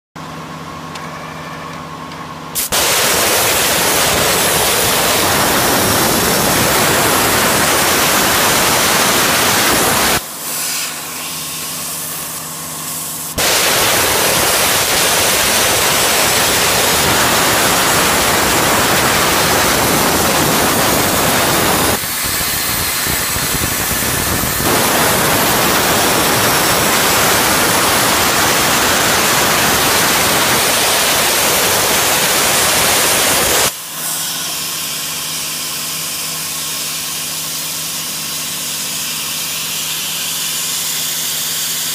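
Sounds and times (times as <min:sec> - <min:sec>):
plasma arc hissing: 0:02.6 - 0:41.9.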